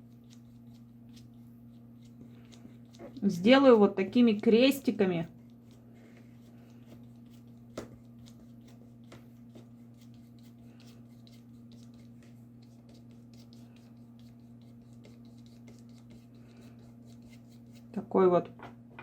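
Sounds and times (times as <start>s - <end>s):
paintbrush dabbing on paper: 2.0s - 17.9s.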